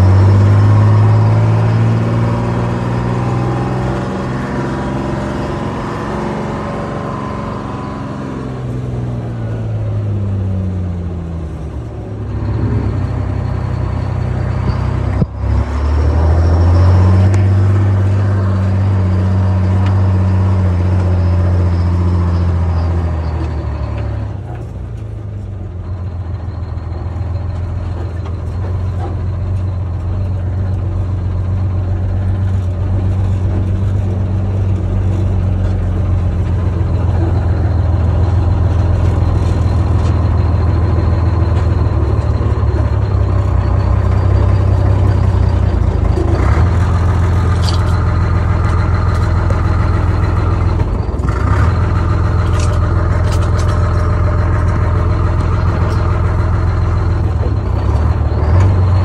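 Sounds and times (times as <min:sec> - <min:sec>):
muffled diesel truck engine: 0:00.0 - 0:59.0.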